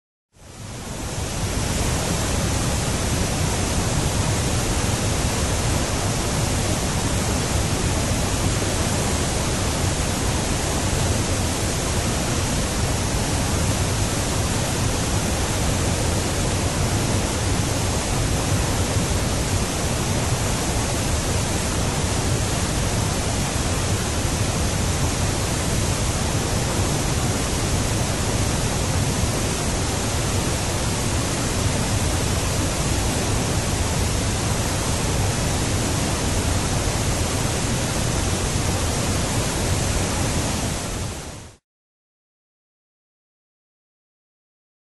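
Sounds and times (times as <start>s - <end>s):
waterfall roaring: 0.6s - 41.5s.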